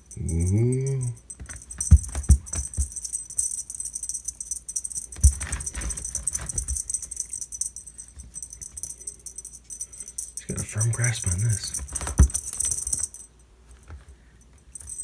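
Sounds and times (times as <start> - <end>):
cat toy jingling and rattling: 0.0 - 13.4, 14.7 - 15.0.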